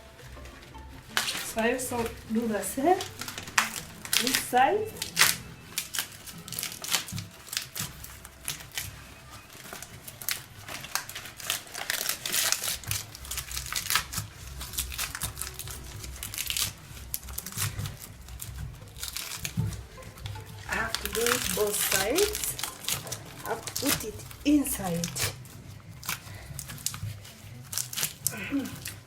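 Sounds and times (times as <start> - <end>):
hands bumping leaves and pot: 0.0 - 29.0
leaves crinkling and crackling: 0.0 - 29.0.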